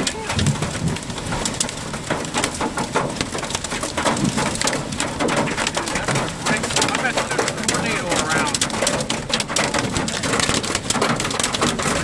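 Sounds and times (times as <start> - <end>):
hail pelting a vehicle: 0.0 - 12.0
rain hiss: 0.0 - 12.0.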